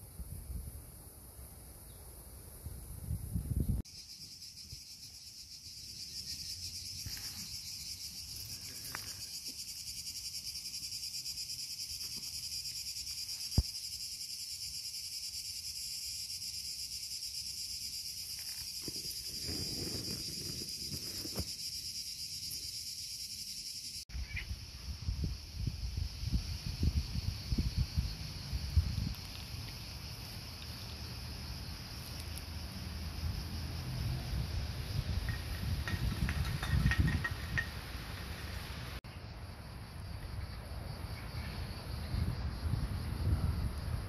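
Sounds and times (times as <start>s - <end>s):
cicadas buzzing: 0.0s - 44.0s.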